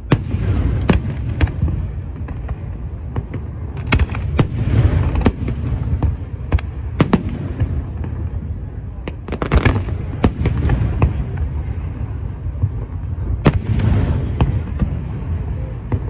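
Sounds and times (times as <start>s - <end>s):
firework crackling: 0.0s - 16.0s
rumble of booms: 0.1s - 16.0s.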